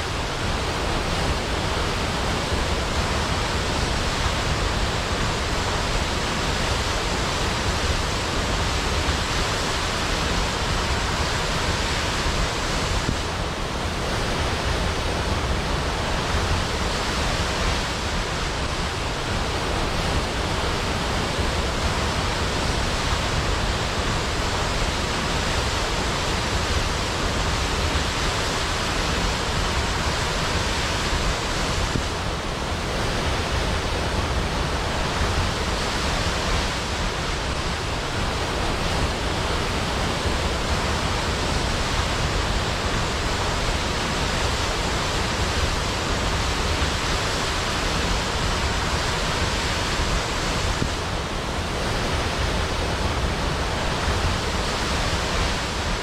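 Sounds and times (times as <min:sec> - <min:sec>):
waterfall crashing into pool: 0:00.0 - 0:56.0.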